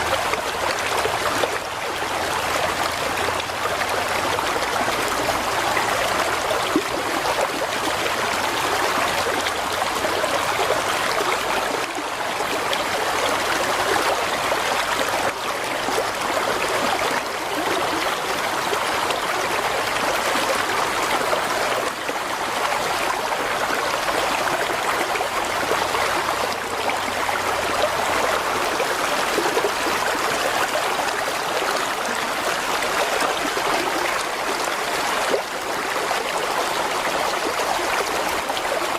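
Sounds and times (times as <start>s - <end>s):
mountain stream flowing: 0.0s - 38.9s.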